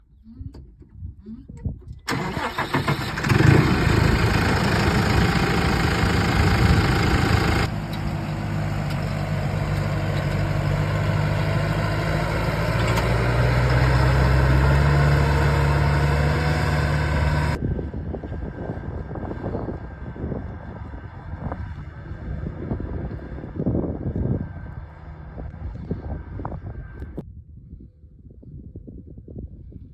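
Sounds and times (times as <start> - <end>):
wind noise: 0.0 - 29.9
tractor diesel engine running: 2.1 - 27.2.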